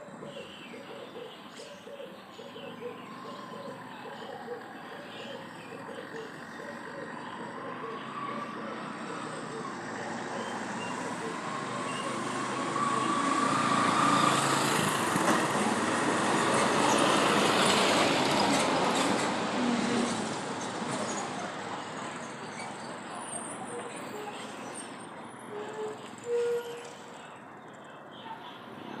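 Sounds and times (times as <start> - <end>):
passing road traffic: 0.0 - 29.0.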